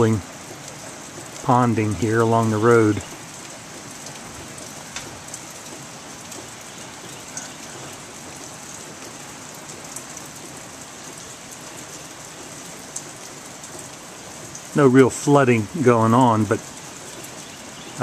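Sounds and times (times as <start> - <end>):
steady rain: 0.0 - 18.0
stream roaring: 0.0 - 18.0.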